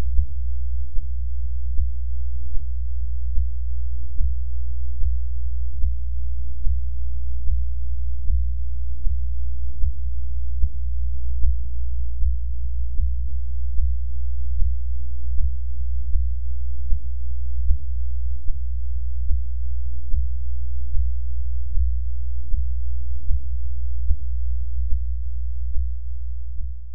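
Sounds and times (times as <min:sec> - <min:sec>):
heartbeat: 0:00.0 - 0:26.9.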